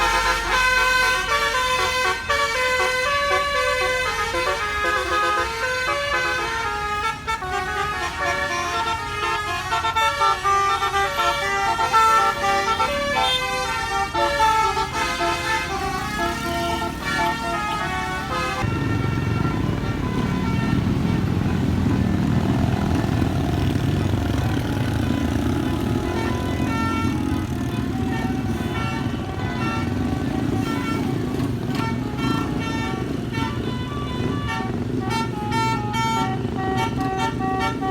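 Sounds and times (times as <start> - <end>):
bus engine rumble: 0.0 - 37.9
bus musical horn playing a tune: 0.0 - 37.9.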